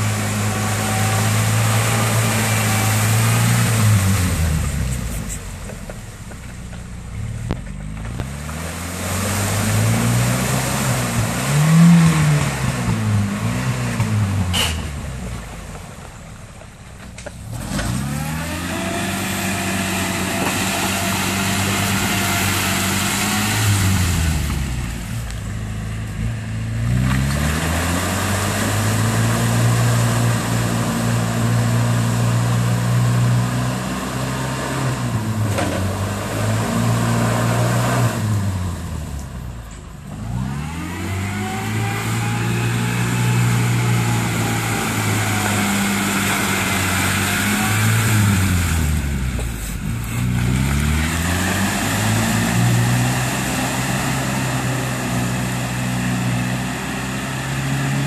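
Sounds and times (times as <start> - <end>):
truck engine revving in mud: 0.0 - 5.4, 7.2 - 15.8, 17.2 - 58.0.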